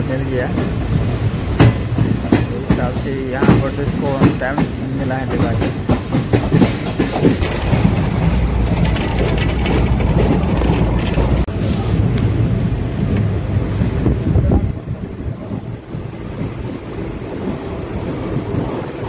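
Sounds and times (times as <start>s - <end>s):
train wheels rumbling and rattling: 0.0s - 19.0s.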